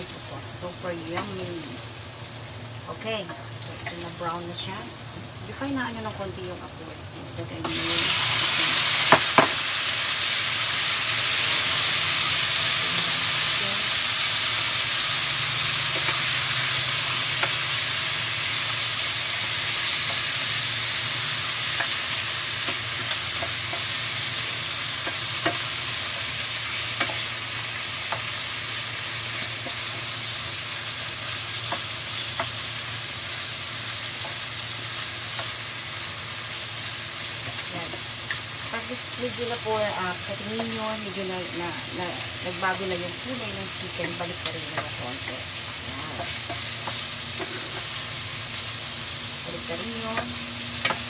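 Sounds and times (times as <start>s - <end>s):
chicken sizzling in hot oil: 0.0s - 51.0s.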